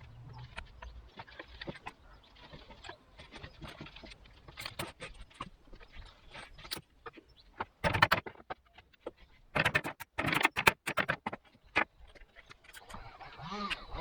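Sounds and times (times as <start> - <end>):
sharp clicks and knocks on wood: 0.4 - 12.8.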